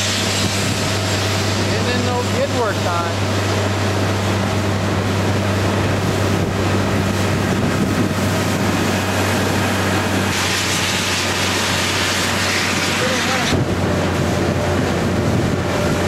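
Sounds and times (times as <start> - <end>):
outboard motor humming: 0.0 - 16.0
wind and water rushing: 0.0 - 16.0.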